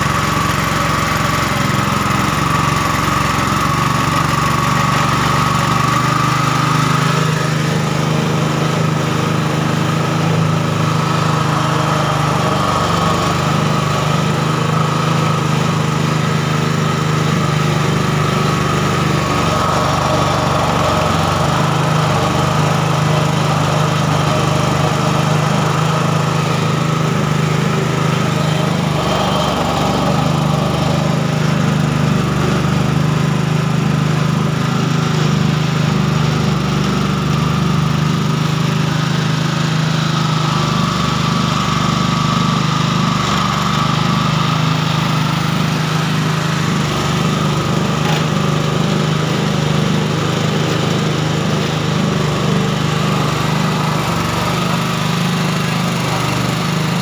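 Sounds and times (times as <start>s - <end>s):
juicing machine humming: 0.0s - 57.0s.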